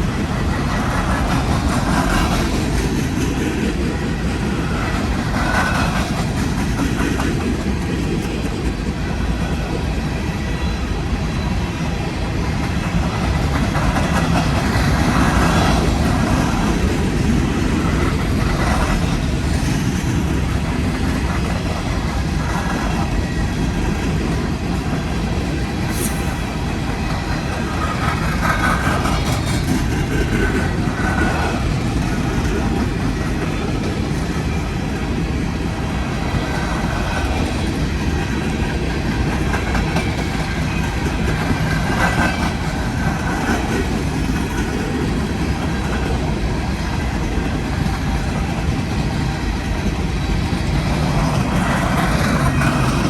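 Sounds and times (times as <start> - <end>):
clickety-clack over rail joints: 0.0 - 53.0
train wheels rumbling on rails: 0.0 - 53.0.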